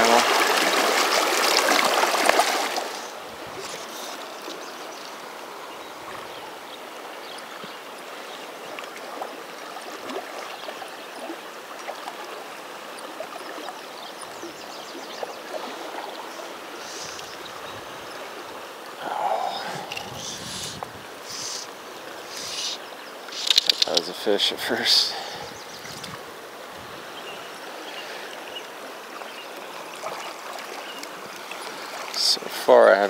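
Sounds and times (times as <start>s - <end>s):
river current rushing: 0.0s - 33.0s.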